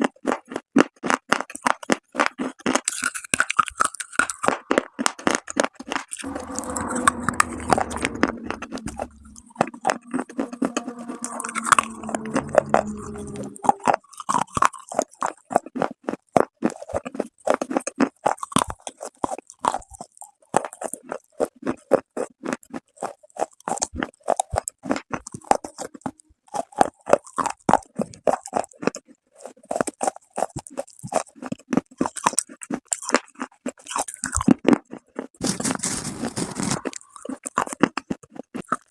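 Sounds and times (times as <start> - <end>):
crunching and chewing clay: 0.0 - 6.3, 13.9 - 38.9.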